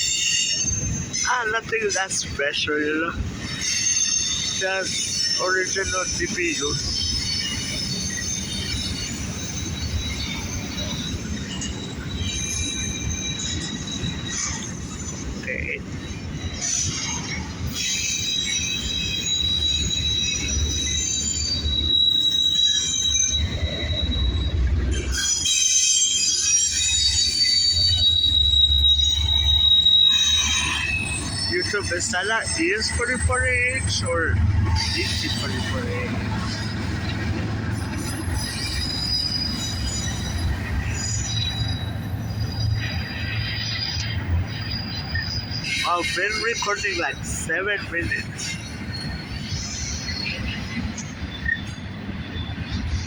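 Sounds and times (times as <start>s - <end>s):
freight train rumbling: 0.0s - 53.0s
train wheels squealing on rails: 0.0s - 53.0s.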